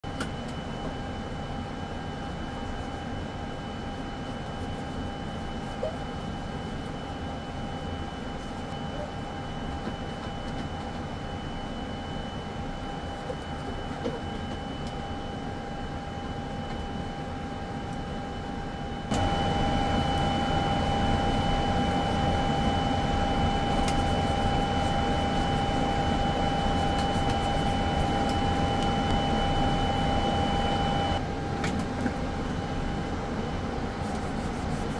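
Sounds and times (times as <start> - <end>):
ventilation hum: 0.0 - 34.9
constant whining tones: 0.1 - 33.4.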